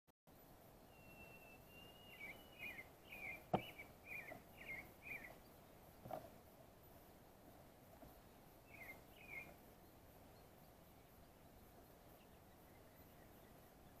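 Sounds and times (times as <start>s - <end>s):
faint songbird song: 0.3s - 14.0s.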